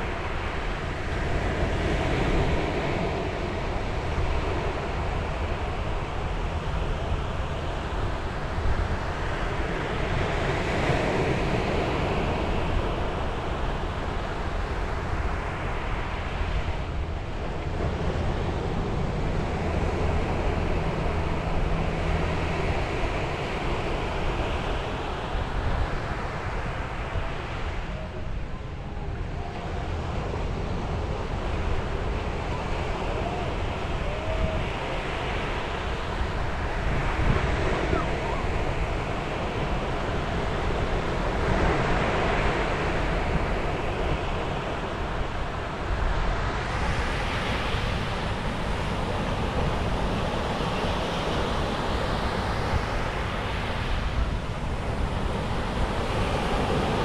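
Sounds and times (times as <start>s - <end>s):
sea waves breaking on a beach: 0.0s - 57.0s
wind rumbling on the microphone: 0.0s - 57.0s.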